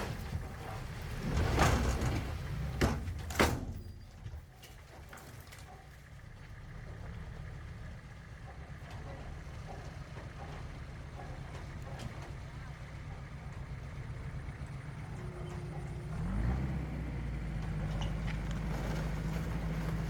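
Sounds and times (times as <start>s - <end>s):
diesel machinery engine rumble: 0.0s - 20.0s.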